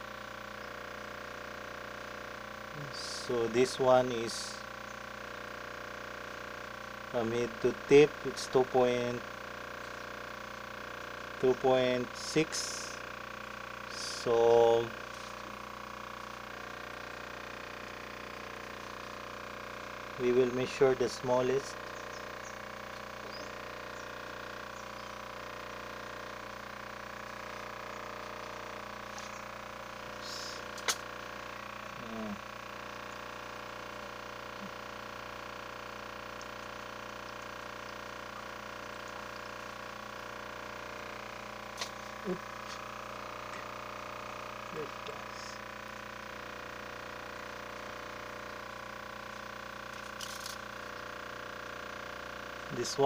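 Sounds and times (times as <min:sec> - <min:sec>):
steady hum of even tones: 0:00.0 - 0:53.0.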